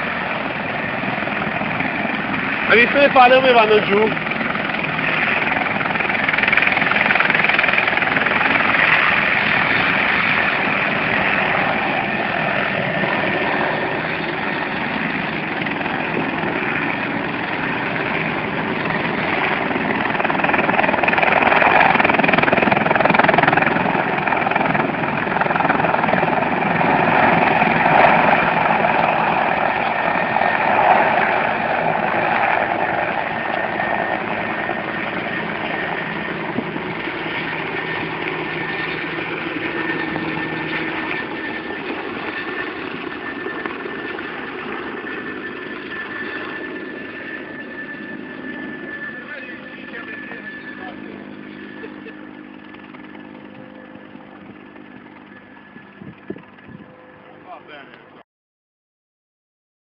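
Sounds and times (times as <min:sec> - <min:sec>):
helicopter engine and rotor: 0:00.0 - 0:58.2.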